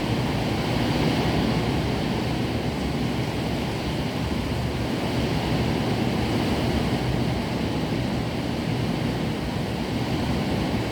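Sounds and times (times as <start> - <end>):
heavy rain in strong wind: 0.0 - 10.9.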